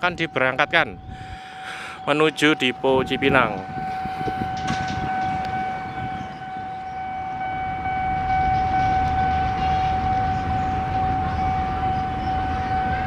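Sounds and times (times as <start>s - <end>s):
diesel locomotives rumbling: 0.0s - 13.0s
steady electronic warning tone: 0.0s - 13.0s.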